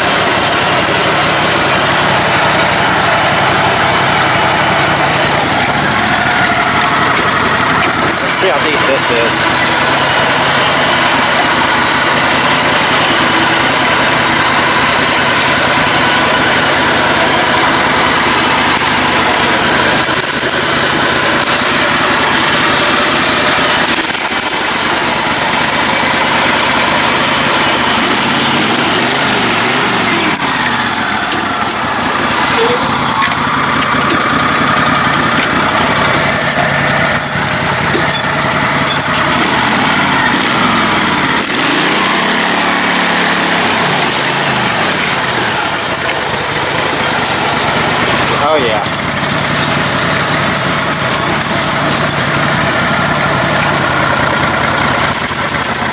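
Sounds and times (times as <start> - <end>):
riding mower engine running: 0.0 - 55.9.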